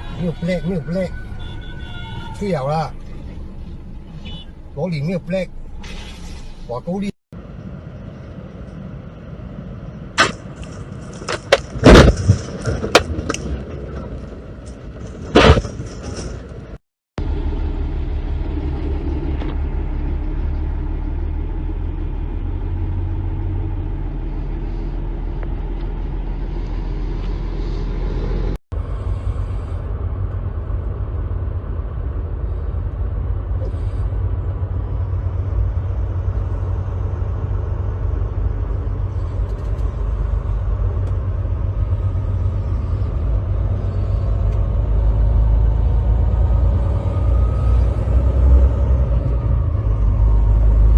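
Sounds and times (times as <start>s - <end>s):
road and engine rumble: 0.0s - 50.9s.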